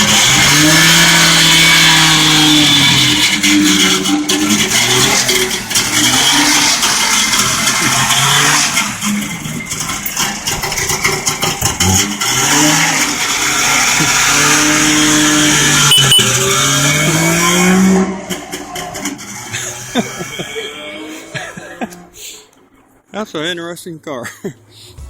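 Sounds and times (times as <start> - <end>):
two-stroke van engine revving: 0.0 - 22.8.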